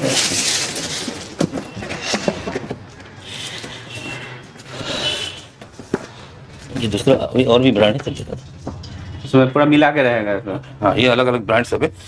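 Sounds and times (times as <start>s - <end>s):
rustling and scraping: 0.0s - 9.8s.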